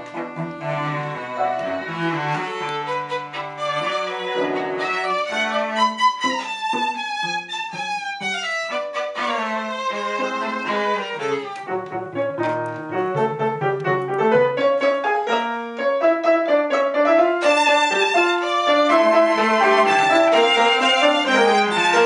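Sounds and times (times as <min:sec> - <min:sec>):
cello: 0:00.0 - 0:22.0
piano chords: 0:00.0 - 0:22.0
violin melody: 0:00.0 - 0:22.0.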